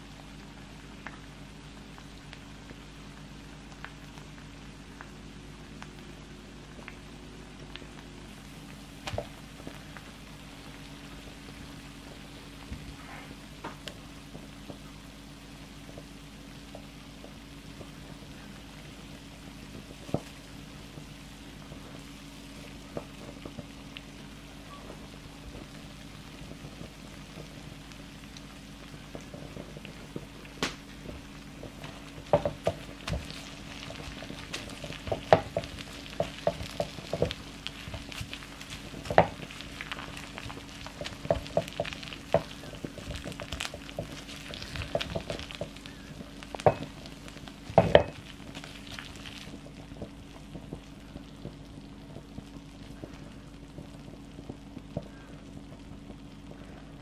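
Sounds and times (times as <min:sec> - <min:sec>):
rice sizzling on grill plate: 0:07.6 - 0:56.5.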